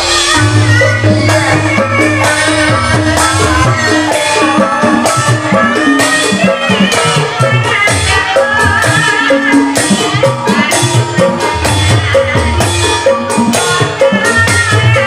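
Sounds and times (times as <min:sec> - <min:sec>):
gamelan music: 0:00.0 - 0:15.0
high melody line: 0:00.0 - 0:15.0.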